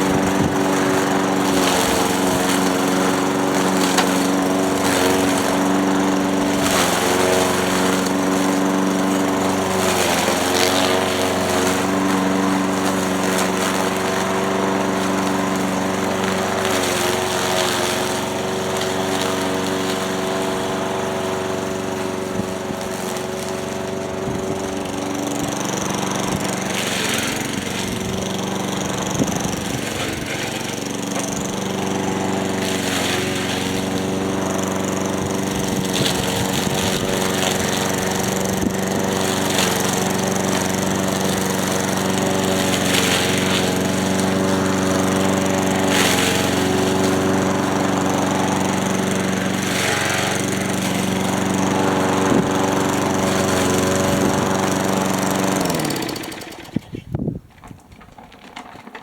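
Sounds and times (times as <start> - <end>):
grass swishing: 0.0 - 57.3
lawn mower engine running: 0.0 - 59.0.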